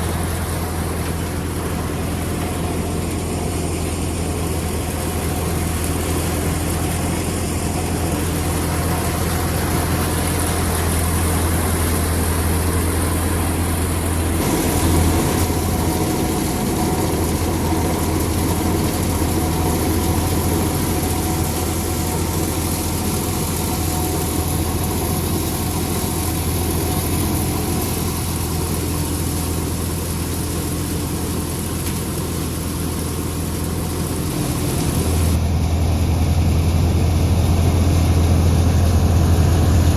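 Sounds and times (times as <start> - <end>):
thresher humming: 0.0 - 39.9
tractor diesel engine running: 0.0 - 39.9.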